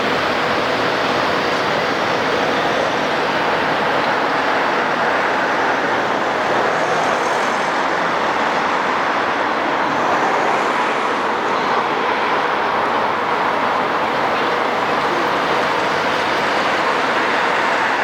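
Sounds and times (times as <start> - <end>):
city traffic rush: 0.0 - 18.0.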